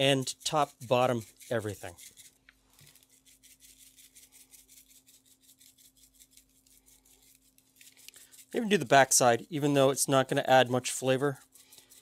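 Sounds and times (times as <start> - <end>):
shaker jar rattling: 0.0 - 10.0, 10.9 - 12.0.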